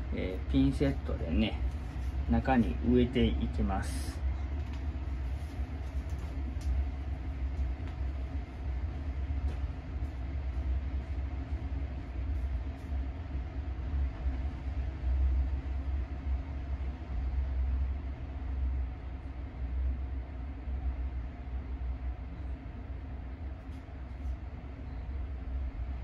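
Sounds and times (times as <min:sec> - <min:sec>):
faint constant hum: 0:00.0 - 0:26.0
low rumble: 0:00.0 - 0:26.0.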